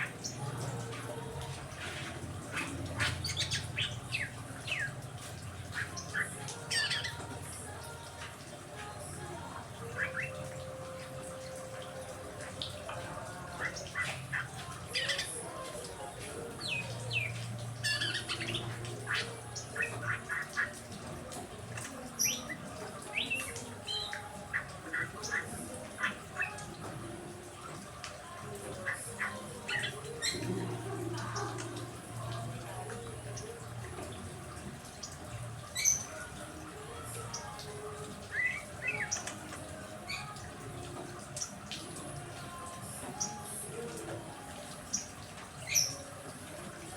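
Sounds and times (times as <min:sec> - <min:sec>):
songbirds chirping and whistling: 0:00.0 - 0:46.9.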